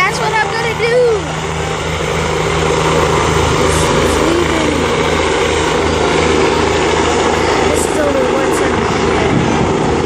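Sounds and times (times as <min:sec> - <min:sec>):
helicopter engine rushing: 0:00.0 - 0:10.0
helicopter rotor chopping: 0:00.0 - 0:10.0.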